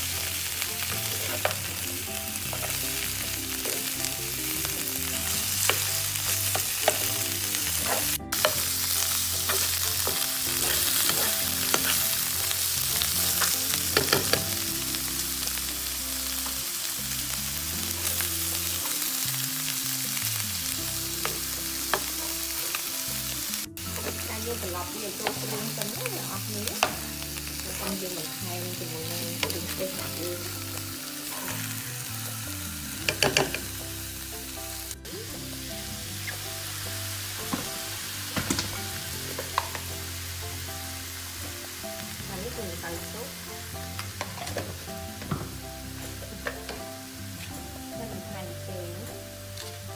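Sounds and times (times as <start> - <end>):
fish sizzling in hot oil: 0.0 - 47.4.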